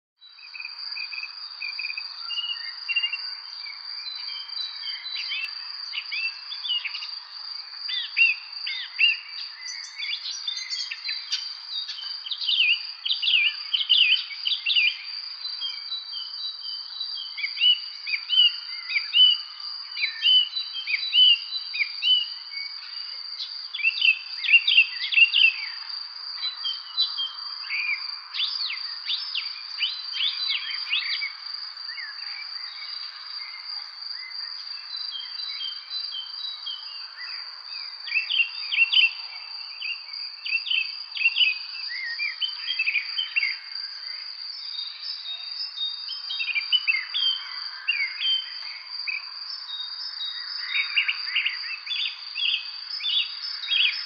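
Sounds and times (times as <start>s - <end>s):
songbirds chirping and trilling: 0.2s - 54.0s.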